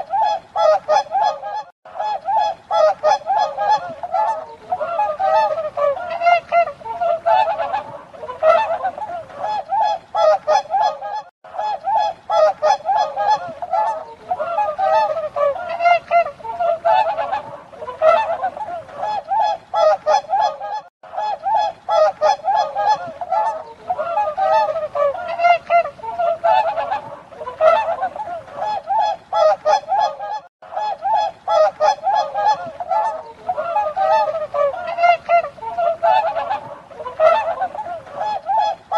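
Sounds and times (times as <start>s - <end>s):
swans honking: 0.0s - 38.9s.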